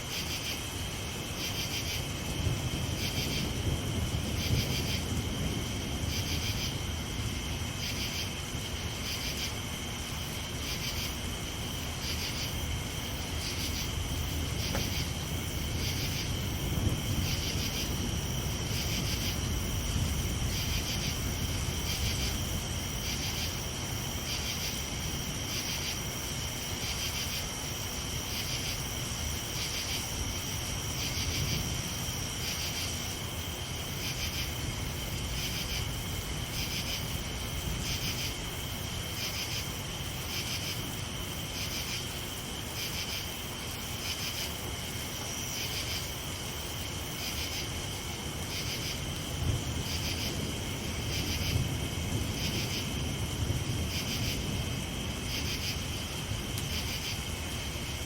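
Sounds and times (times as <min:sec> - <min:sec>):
insects trilling: 0:00.0 - 0:58.0
rain hiss and rumble: 0:00.0 - 0:58.0
pulsing insect chirp: 0:00.1 - 0:58.0.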